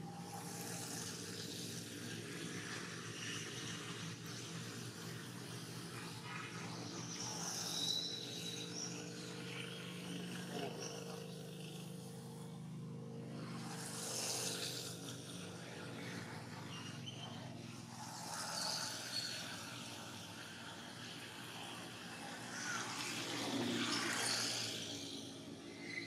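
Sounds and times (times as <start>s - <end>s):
low mechanical hum: 0.0s - 24.3s.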